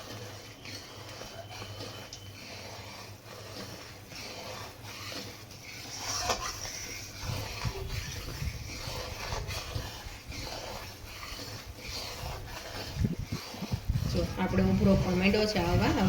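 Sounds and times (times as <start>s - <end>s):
sugar syrup boiling in a pan: 0.0s - 16.0s.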